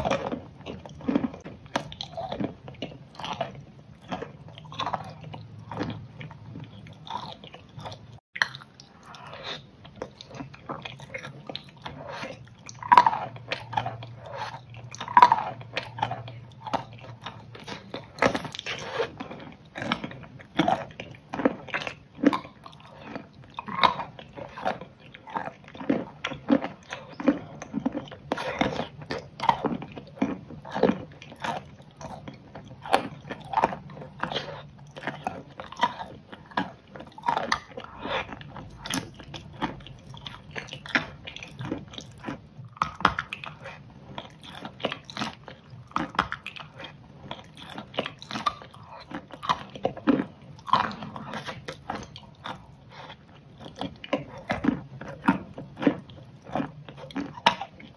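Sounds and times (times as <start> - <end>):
chewing with mouth clicks: 0.0 - 57.9.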